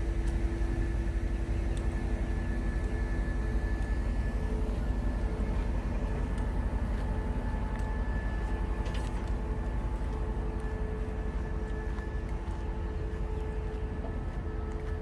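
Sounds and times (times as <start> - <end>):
thin steady whine: 0.0 - 15.0
track vehicle engine rumble: 0.0 - 15.0.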